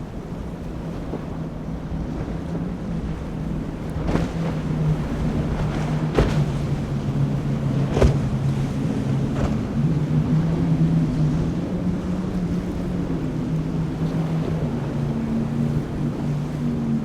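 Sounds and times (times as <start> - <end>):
motorboat engine humming: 0.0 - 17.0
surf: 0.0 - 17.0
wind on microphone: 0.0 - 17.0.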